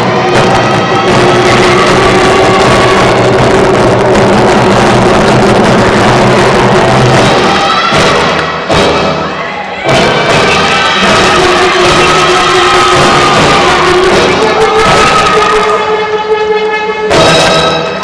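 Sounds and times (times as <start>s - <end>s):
loud recorded music: 0.0s - 18.0s.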